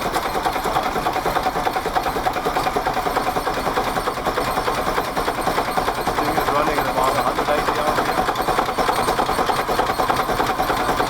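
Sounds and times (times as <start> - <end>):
diesel boat engine running: 0.0 - 11.0.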